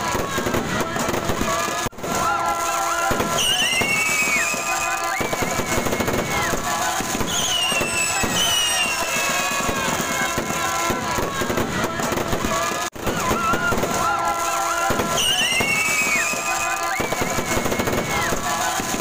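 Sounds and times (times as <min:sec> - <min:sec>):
crowd voices: 0:00.0 - 0:19.0
fireworks crackling and popping: 0:00.0 - 0:19.0
fireworks whistles falling in pitch: 0:00.0 - 0:19.0.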